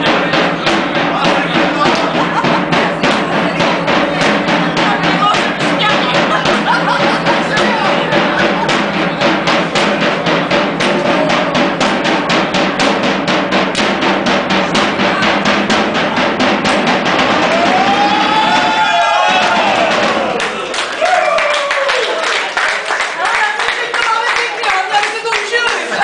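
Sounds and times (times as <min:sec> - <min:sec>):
drum beaten in fast rhythm: 0:00.0 - 0:26.0.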